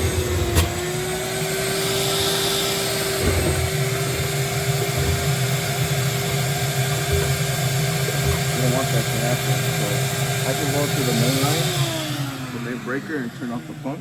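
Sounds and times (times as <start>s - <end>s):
shop vacuum motor whine: 0.0s - 14.0s.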